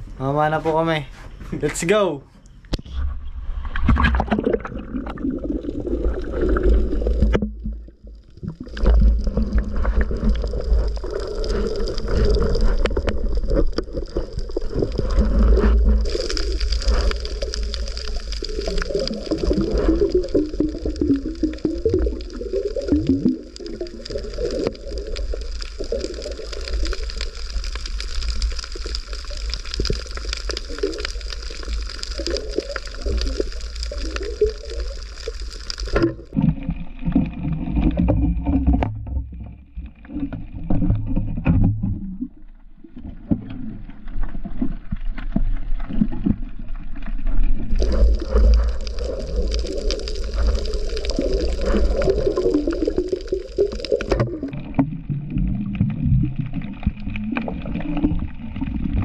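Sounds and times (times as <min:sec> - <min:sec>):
muffled underwater gurgling: 0:03.5 - 0:46.9, 0:47.5 - 0:59.0.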